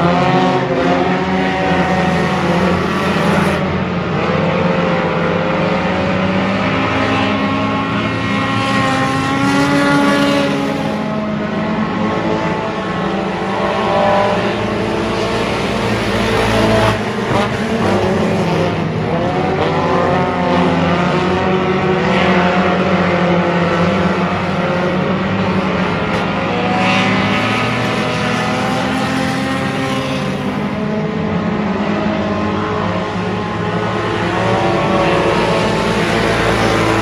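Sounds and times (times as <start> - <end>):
race car engine revving: 0.0 - 37.0.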